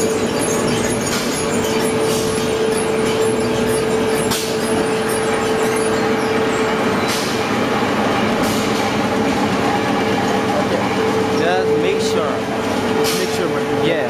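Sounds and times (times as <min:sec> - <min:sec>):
clay crushing machinery running: 0:00.0 - 0:14.0
steady hum: 0:00.0 - 0:14.0.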